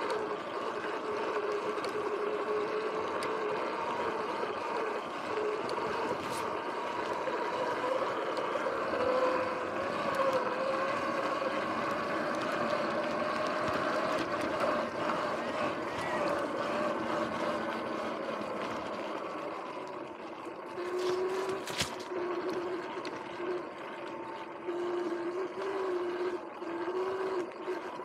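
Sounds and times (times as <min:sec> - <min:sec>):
electric motor whining: 0:00.0 - 0:28.0
wind and tyres on dirt: 0:00.0 - 0:28.0.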